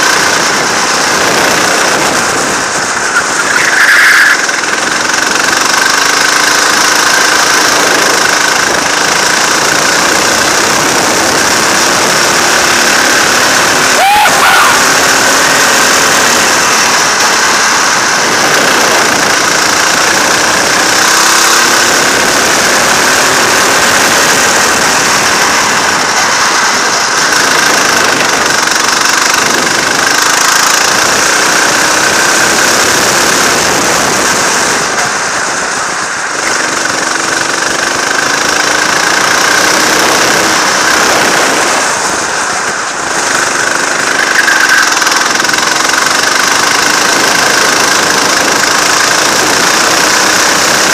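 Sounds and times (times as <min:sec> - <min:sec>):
go-kart engine revving: 0:00.0 - 0:50.9.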